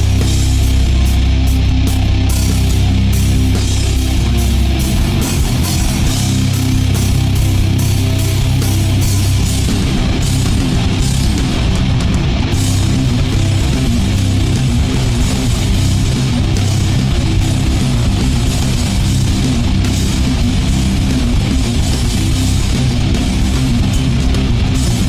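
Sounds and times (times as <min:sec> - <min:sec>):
heavy rock music with electric guitar: 0:00.0 - 0:25.0.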